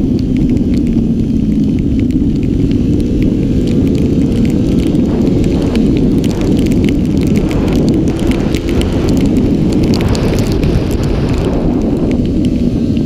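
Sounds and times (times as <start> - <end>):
crackles of water spray: 0.0 - 13.0
wind buffeting microphone: 0.0 - 13.0.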